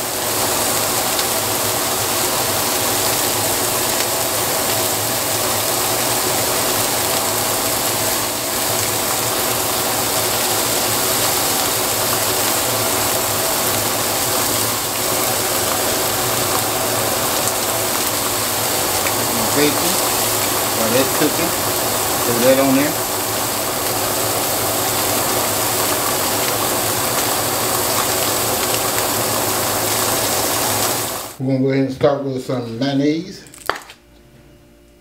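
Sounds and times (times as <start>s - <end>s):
burgers and bacon sizzling: 0.0s - 31.4s.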